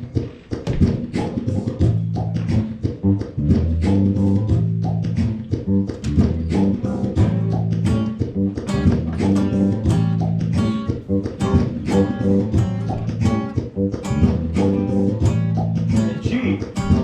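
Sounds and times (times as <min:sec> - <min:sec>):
low bass line: 0:01.4 - 0:17.0
plucked guitar notes: 0:02.0 - 0:17.0.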